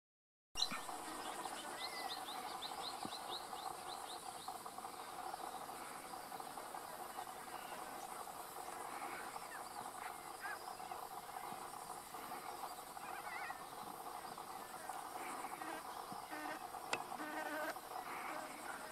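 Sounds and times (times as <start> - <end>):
bird chirps: 0.6 - 18.9
insect chorus: 0.6 - 18.9.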